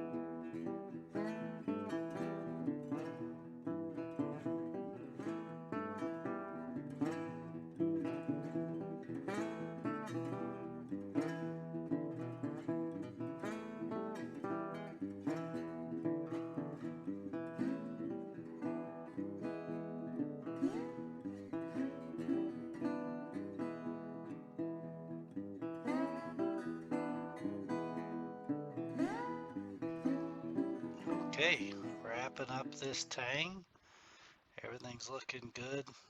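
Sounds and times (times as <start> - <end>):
acoustic guitar plucked notes: 0.0 - 33.5.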